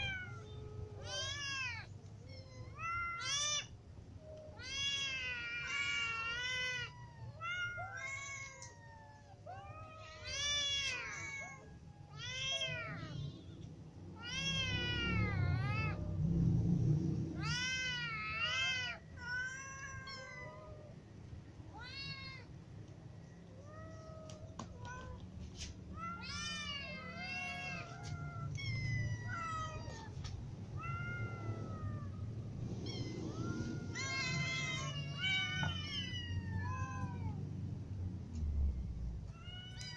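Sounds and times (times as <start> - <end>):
cats meowing: 0.0 - 16.1, 17.3 - 22.6, 23.4 - 37.6, 39.2 - 39.9.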